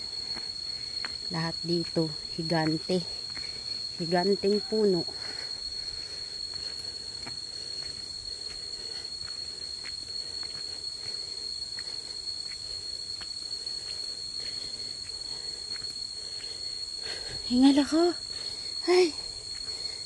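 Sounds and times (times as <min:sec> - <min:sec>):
insects droning high-pitched: 0:00.0 - 0:20.0.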